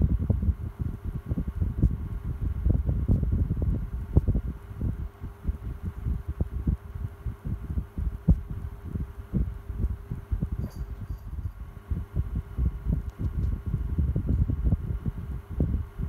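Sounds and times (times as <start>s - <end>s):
fan airflow buffeting: 0.0s - 16.0s
fan motor hum: 0.0s - 16.0s.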